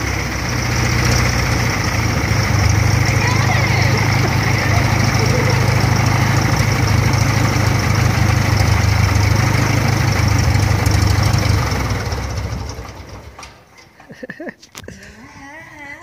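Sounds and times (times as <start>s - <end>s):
propeller plane engine idling: 0.0s - 13.6s.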